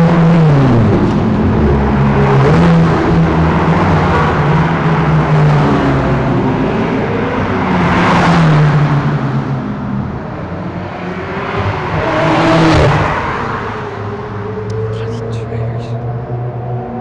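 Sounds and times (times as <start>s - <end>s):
sports cars driving past: 0.0s - 17.0s.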